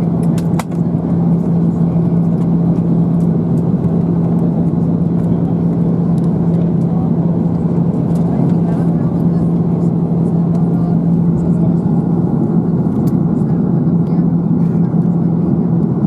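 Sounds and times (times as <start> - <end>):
airplane cabin engine hum: 0.0 - 16.0.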